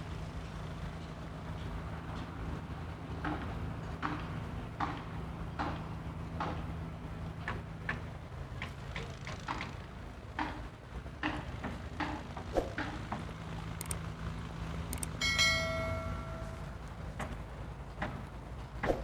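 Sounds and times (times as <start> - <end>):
distant traffic hum: 0.0 - 19.0.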